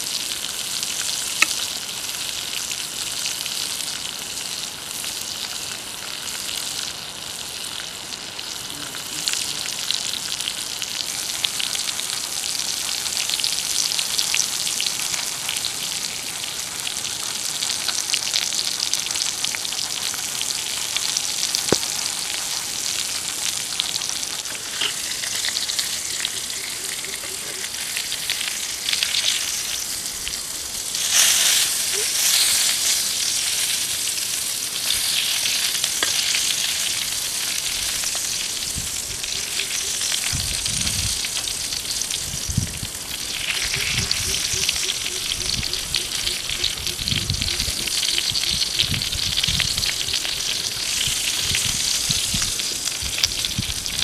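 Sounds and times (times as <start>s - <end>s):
food sizzling on hot stone: 0.0s - 54.0s.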